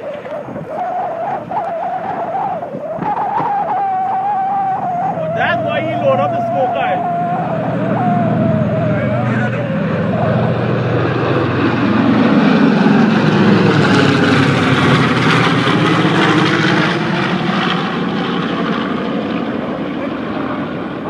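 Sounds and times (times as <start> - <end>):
propeller planes droning overhead: 0.0 - 21.0.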